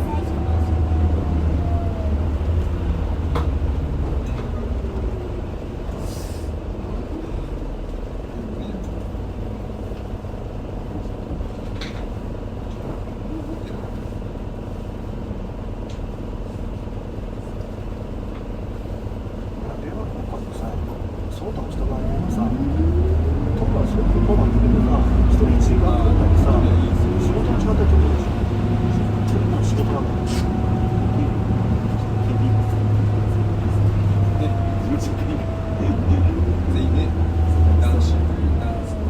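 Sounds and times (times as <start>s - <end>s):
road noise: 0.0s - 15.1s, 15.8s - 39.0s
bus diesel engine running: 0.0s - 39.0s.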